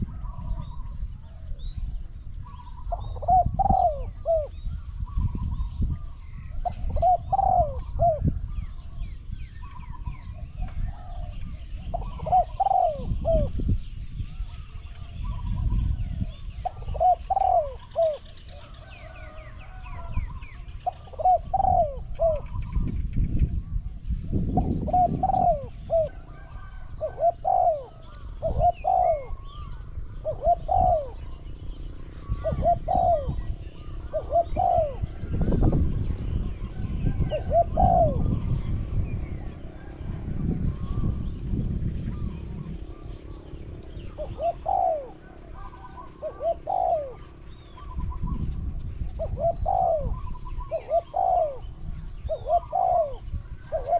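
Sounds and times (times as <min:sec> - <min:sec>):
dove cooing: 0:00.0 - 0:09.0, 0:09.6 - 0:13.7, 0:14.4 - 0:22.9, 0:24.4 - 0:53.9
low rumbling noise: 0:00.0 - 0:53.9
small birds chirping: 0:00.0 - 0:53.9.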